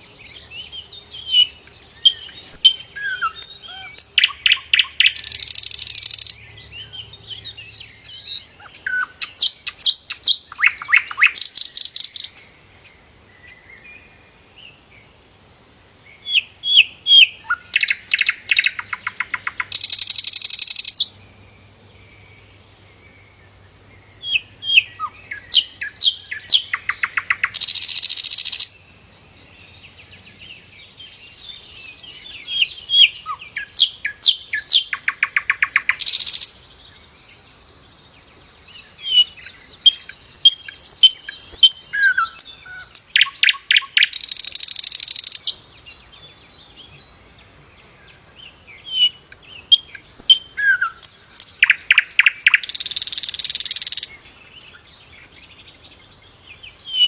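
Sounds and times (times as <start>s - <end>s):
bird chirps trills and buzz: 0.0s - 15.1s, 16.1s - 57.0s.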